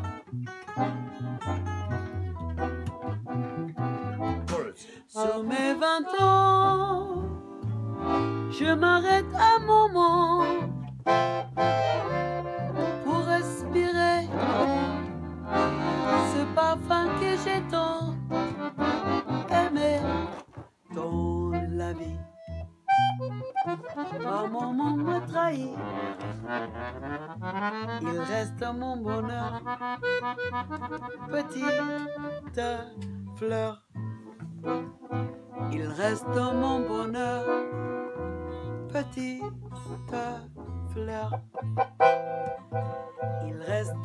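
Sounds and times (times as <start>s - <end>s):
accordion melody: 0.0s - 44.0s
acoustic guitar strumming: 0.0s - 44.0s.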